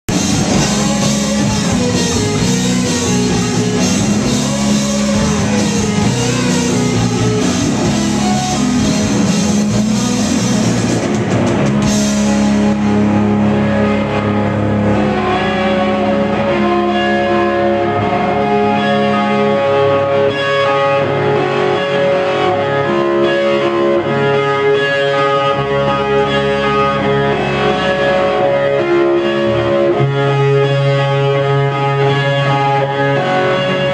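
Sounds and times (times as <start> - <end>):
rock band playing live: 0.1 - 33.9.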